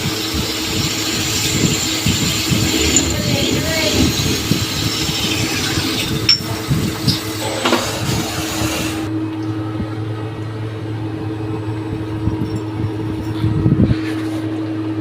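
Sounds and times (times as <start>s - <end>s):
machine humming: 0.0s - 12.9s.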